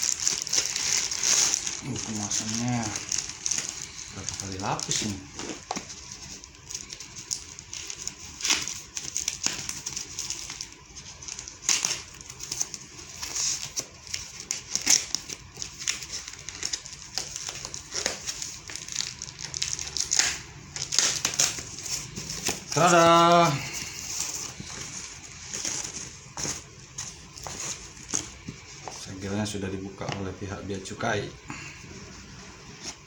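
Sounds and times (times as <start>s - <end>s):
plastic packaging crinkling: 0.0s - 30.9s.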